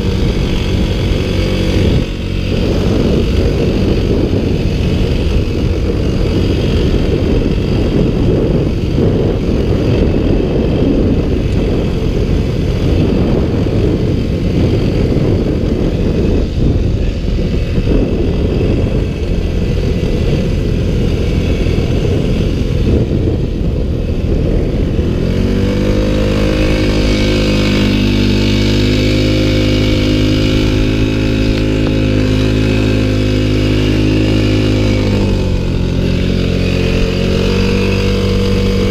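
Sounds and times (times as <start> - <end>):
quad engine running under load: 0.0 - 38.9.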